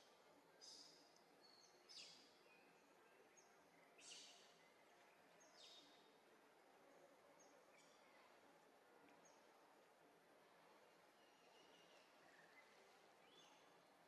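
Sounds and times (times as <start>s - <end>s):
faint forest ambience: 0.0s - 14.0s.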